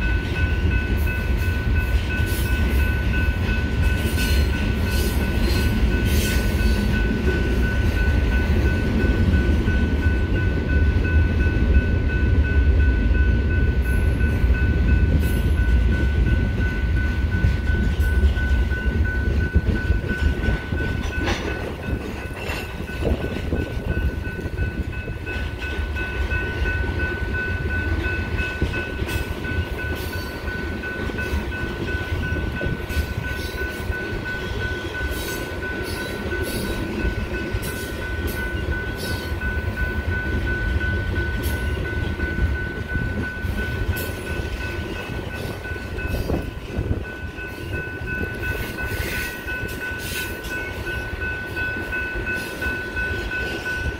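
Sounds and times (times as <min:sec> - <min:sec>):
railcar clicks and clanks: 0:00.0 - 0:53.9
steady high-pitched tone: 0:00.0 - 0:53.9
train wheels rumbling on rails: 0:00.0 - 0:53.9.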